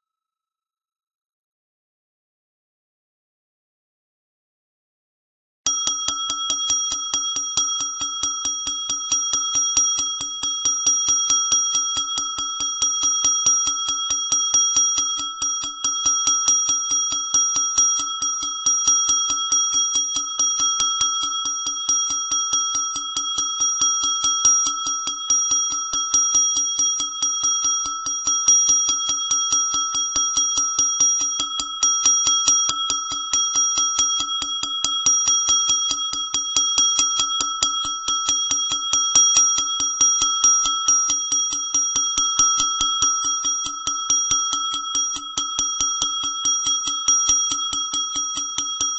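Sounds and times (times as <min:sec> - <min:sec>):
small brass bell ringing rapidly: 0:05.7 - 0:48.9.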